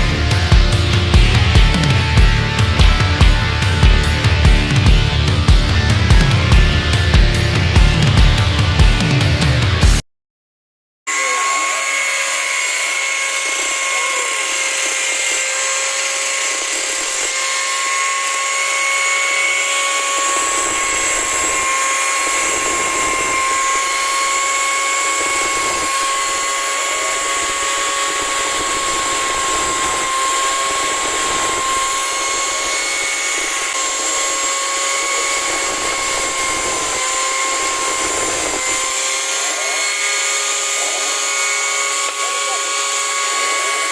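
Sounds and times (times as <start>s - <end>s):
electric grinder whining: 0.0s - 10.0s, 11.1s - 43.9s.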